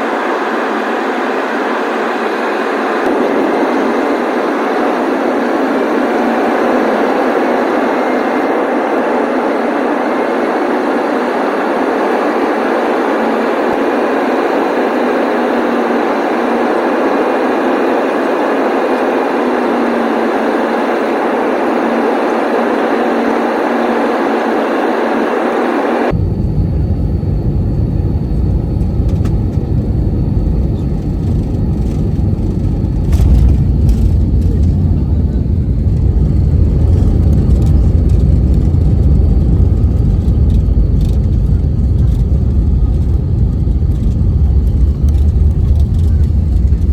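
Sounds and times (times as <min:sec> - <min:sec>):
airliner cabin roar: 0:00.0 - 0:46.9
deep airliner rumble: 0:00.0 - 0:46.9.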